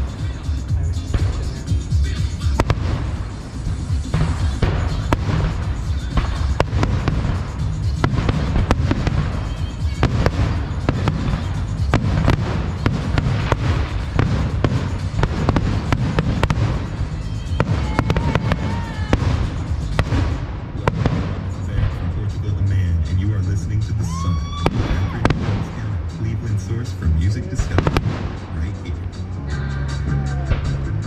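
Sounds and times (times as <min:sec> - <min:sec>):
firework bangs and crackles: 0:00.0 - 0:29.3
steady low rumble: 0:00.0 - 0:31.0.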